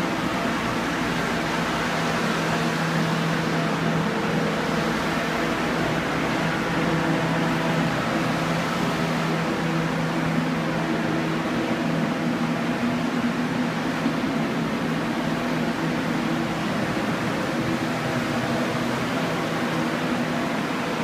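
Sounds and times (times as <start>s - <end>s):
air mover fan whirring: 0.0s - 21.0s.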